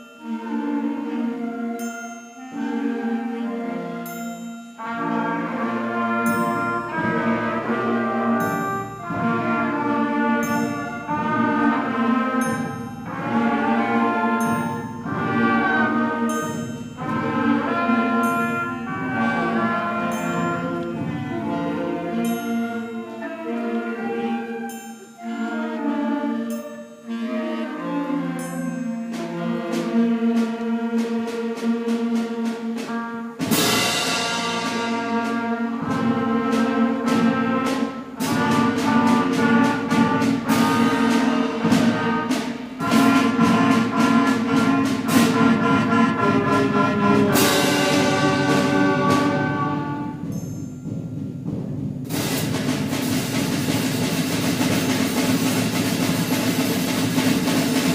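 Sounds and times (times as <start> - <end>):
sustained wind chords: 0.0 - 51.0
percussion strikes: 0.0 - 57.9
concert band playing: 4.8 - 57.9.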